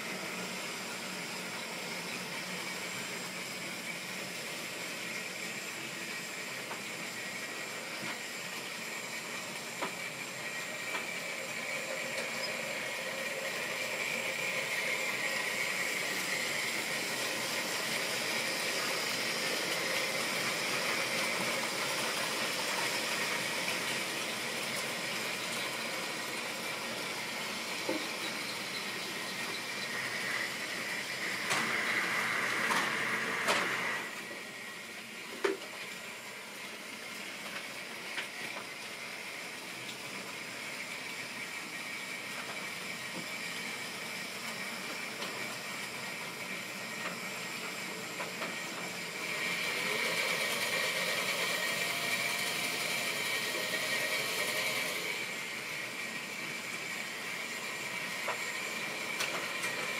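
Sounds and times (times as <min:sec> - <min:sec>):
model train whirring hum: 0:00.0 - 0:59.9.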